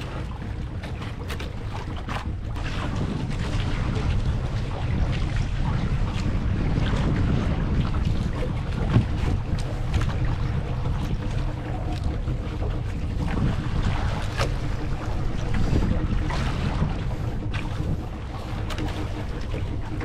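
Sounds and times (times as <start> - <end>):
boat motor running: 0.0 - 20.0
wind buffeting microphone: 0.0 - 20.0.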